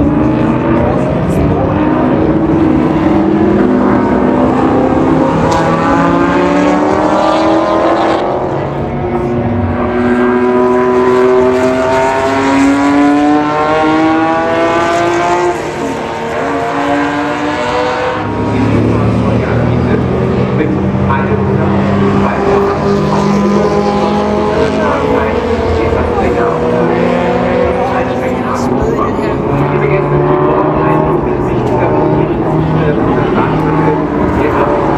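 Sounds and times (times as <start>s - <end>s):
racing car engines accelerating: 0.0s - 34.9s.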